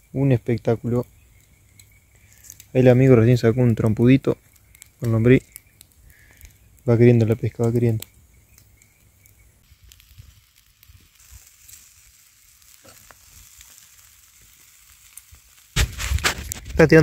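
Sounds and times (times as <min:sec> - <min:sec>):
fire hissing: 0:00.0 - 0:17.0
wood fire crackling: 0:00.0 - 0:17.0.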